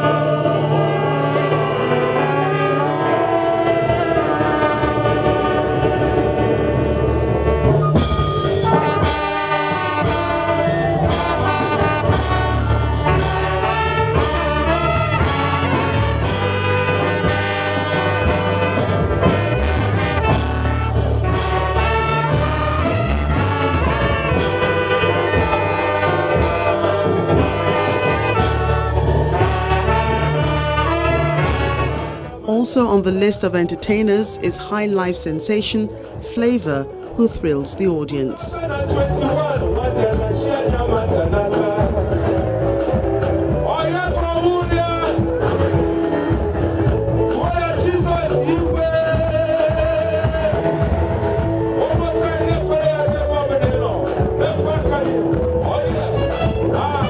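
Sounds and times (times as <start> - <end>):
brass band music: 0.0 - 57.0.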